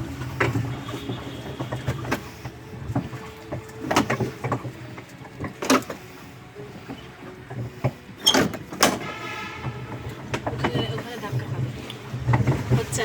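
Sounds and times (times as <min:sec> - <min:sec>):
wooden rowing boat knocking and creaking: 0:00.0 - 0:13.0.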